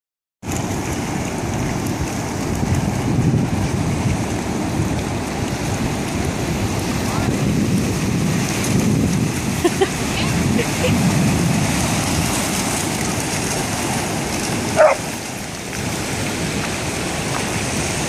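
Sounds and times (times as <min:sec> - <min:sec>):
ocean surf washing in: 0:00.4 - 0:18.0
wind buffeting microphone: 0:00.5 - 0:18.0.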